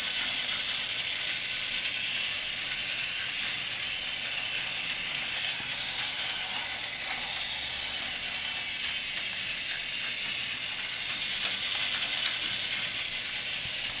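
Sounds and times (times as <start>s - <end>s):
toy train whirring clatter: 0.0s - 14.0s.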